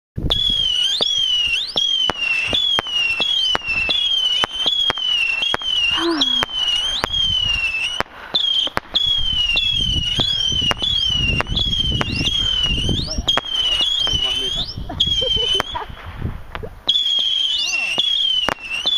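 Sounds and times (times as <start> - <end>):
firework cracks: 0.2 - 18.9
whistling firework missiles: 0.2 - 18.9.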